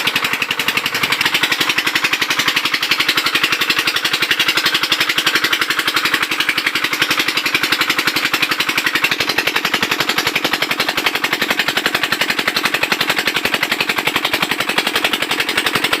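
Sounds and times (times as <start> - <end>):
diesel water pump engine chugging: 0.0 - 16.0.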